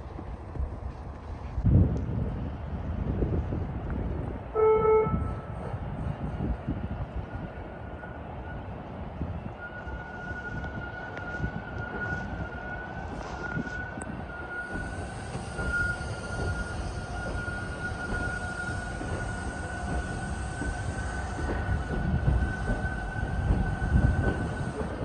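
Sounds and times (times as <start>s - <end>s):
subway train rumbling on tracks: 0.0s - 25.0s.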